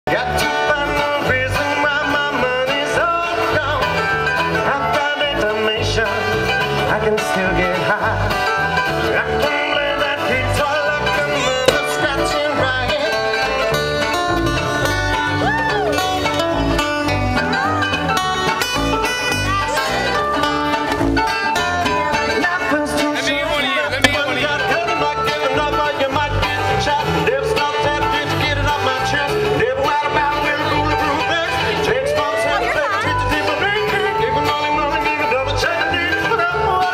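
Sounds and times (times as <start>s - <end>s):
bass guitar: 0.0s - 36.9s
acoustic guitar: 0.1s - 36.9s
mandolin: 0.1s - 36.9s.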